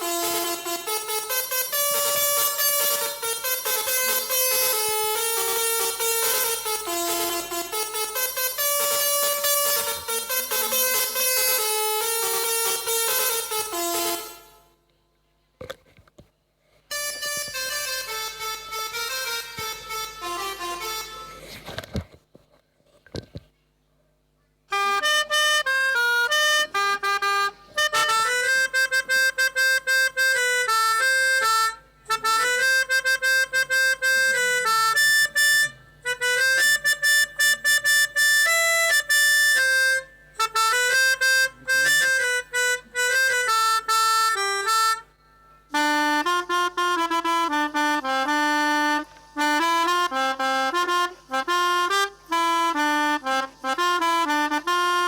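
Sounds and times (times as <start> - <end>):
melodica playing a melody: 0.0 - 14.8, 16.9 - 22.1, 24.7 - 55.0.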